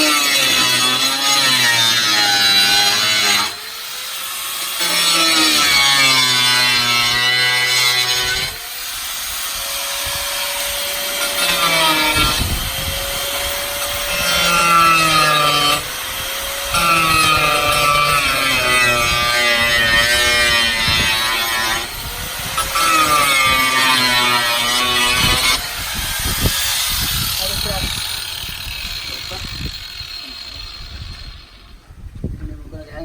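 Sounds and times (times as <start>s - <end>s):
electric power tool cutting: 0.0s - 31.8s.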